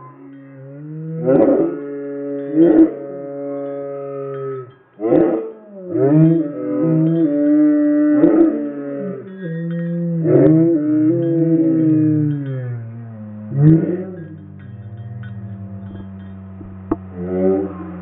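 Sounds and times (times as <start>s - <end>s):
slowed deep dog howls: 0.0s - 18.0s.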